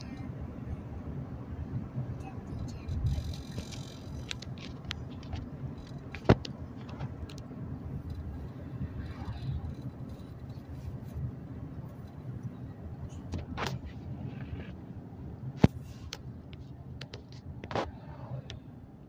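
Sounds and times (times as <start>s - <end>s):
car cabin road noise: 0.0s - 19.0s.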